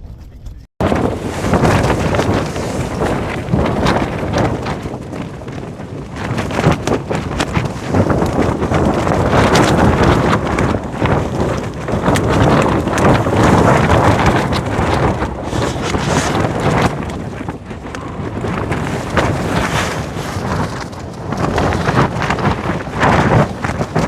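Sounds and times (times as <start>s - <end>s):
tent fabric flapping: 0.0s - 24.0s
wind rushing on microphone: 0.0s - 24.0s.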